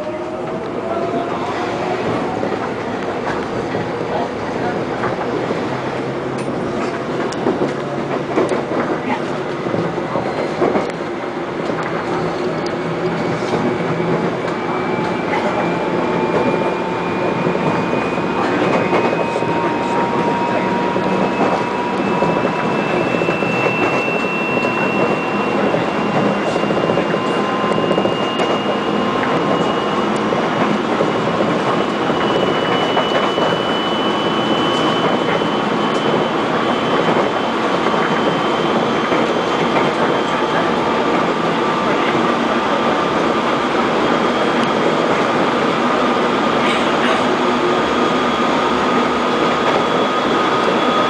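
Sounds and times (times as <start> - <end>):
train running noise inside: 0.0 - 51.0.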